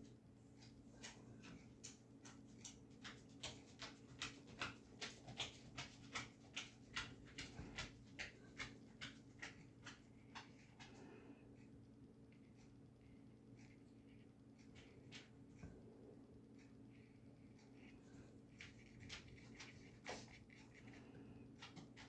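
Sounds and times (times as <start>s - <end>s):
faint hum: 0.0s - 22.0s
paintbrush dabbing on paper: 0.6s - 22.0s.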